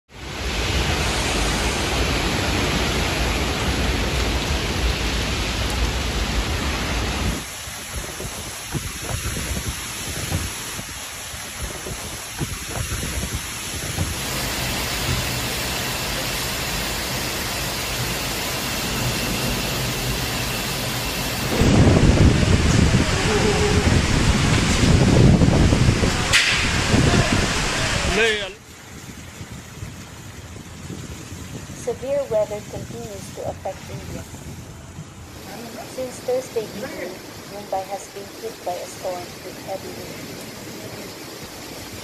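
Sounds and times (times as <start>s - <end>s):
heavy rain: 0.1s - 42.0s
strong wind: 0.1s - 42.0s.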